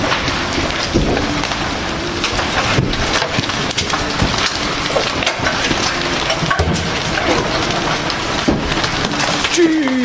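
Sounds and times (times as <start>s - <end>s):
hailstones striking hard surfaces: 0.0s - 10.0s
heavy rain pouring: 0.0s - 10.0s.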